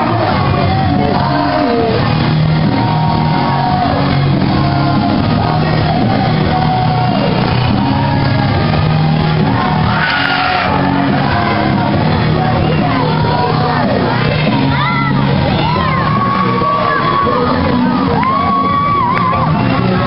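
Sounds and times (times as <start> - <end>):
crowd shouting: 0.0 - 20.0
rock music with singing: 0.0 - 20.0.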